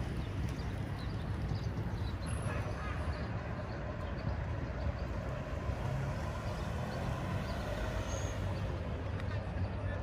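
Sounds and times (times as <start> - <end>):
van engine and tyres rumbling: 0.0 - 10.0.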